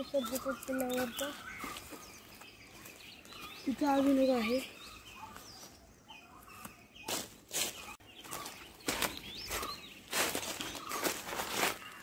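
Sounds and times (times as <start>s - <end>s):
footsteps crunching through dry leaves: 0.0s - 12.0s
small birds chirping: 0.0s - 12.0s.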